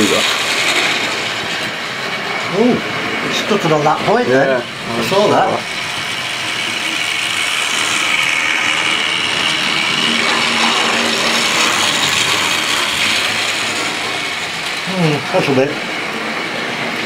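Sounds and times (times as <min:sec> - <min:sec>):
model train motor whir: 0:00.0 - 0:17.0
wheels rattling on rails: 0:00.0 - 0:17.0.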